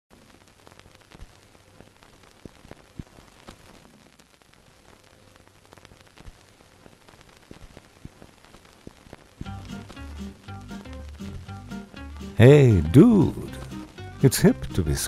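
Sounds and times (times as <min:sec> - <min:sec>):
surface noise crackle: 0:00.1 - 0:15.0.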